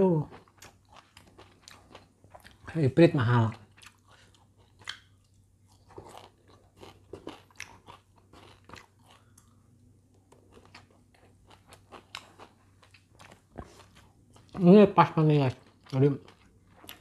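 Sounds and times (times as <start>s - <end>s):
person chewing food: 0.2s - 14.8s, 15.4s - 17.0s.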